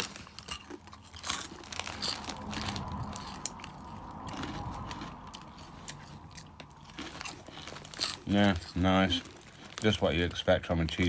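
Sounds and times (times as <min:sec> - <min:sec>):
crunchy snack being chewed: 0:00.0 - 0:11.0.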